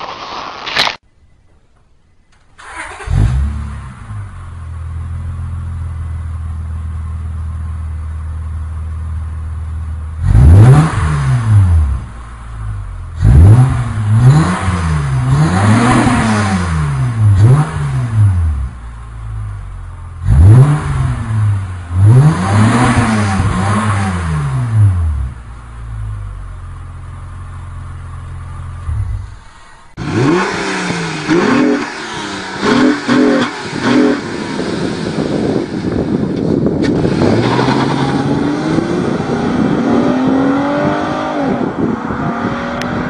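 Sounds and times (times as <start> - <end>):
car engine idling and revving: 2.6 - 43.0.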